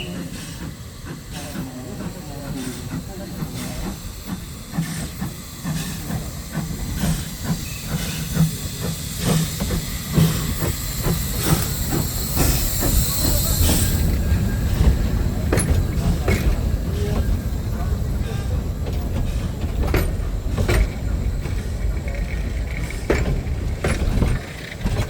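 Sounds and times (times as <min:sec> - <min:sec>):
steam hissing: 0:00.0 - 0:25.0
train rumbling on rails: 0:00.0 - 0:25.0
wheels clicking over rail joints: 0:00.3 - 0:25.0.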